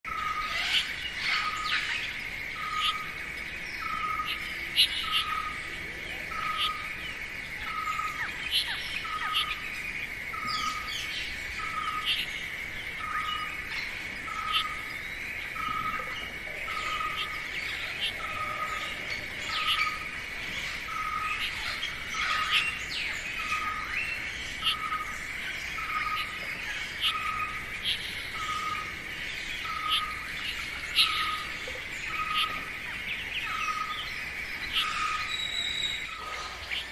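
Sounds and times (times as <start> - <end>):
birds chirping and calling: 0.1 - 36.9
high-pitched insect drone: 0.1 - 36.9.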